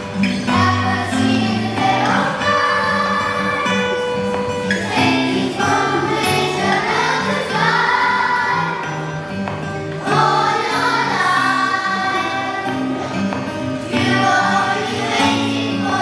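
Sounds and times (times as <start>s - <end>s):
voices singing together: 0.0s - 16.0s.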